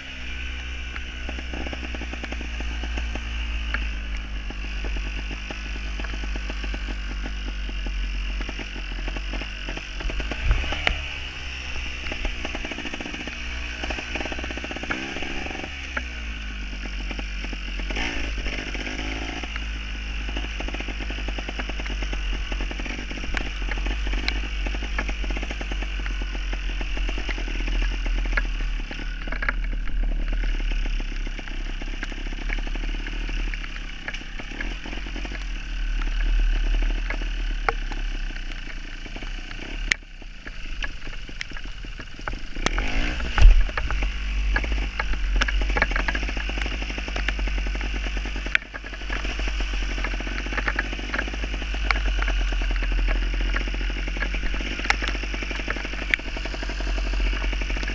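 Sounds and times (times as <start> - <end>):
two-stroke motorcycle engine revving: 0.0 - 57.9.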